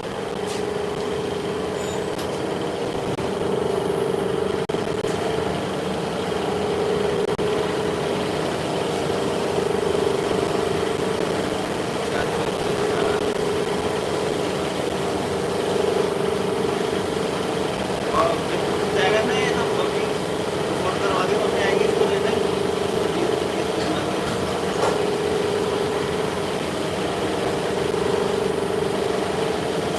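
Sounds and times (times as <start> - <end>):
machinery humming: 0.0 - 29.9.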